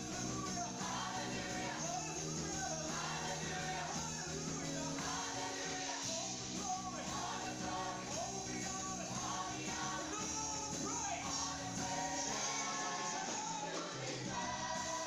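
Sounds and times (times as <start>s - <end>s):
keyboards: 0.0s - 15.0s
women singing: 0.6s - 6.1s, 7.1s - 10.4s, 11.3s - 15.0s.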